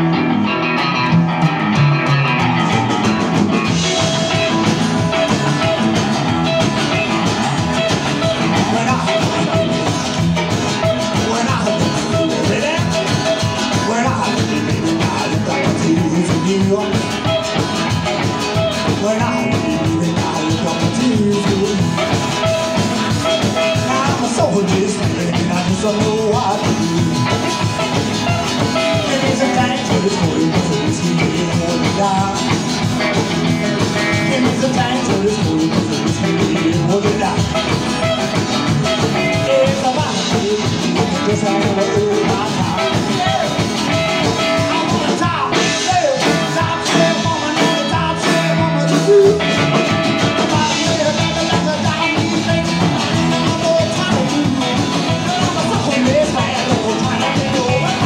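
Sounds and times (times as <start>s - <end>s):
drums: 0.0s - 58.0s
electric guitar with bent notes: 0.0s - 58.0s
strummed acoustic guitar: 0.0s - 58.0s
upright bass: 0.0s - 58.0s.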